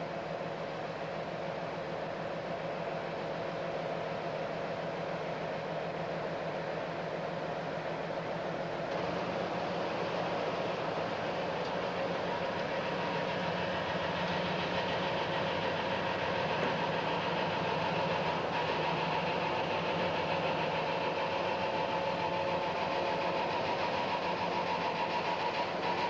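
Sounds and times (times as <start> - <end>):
diesel locomotive engine: 0.0 - 26.0
steady whine: 0.0 - 26.0.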